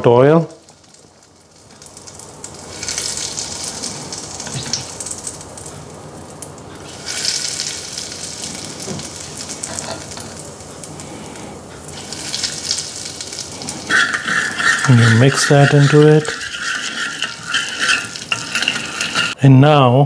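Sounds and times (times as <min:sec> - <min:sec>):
hot oil sizzling and crackling: 0:00.1 - 0:19.4.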